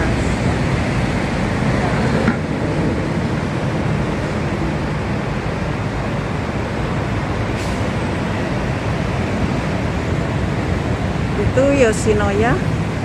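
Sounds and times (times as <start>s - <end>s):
low rumbling city noise: 0.0s - 13.0s.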